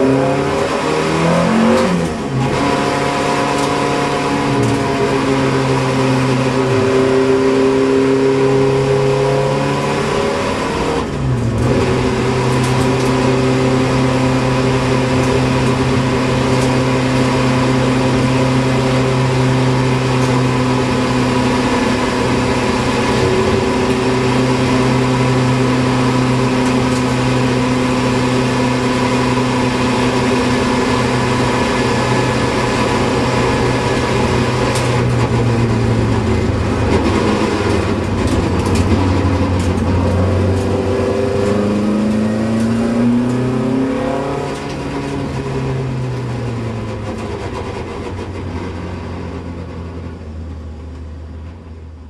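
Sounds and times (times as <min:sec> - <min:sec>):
racing car engine at high revs: 0:00.0 - 0:52.0.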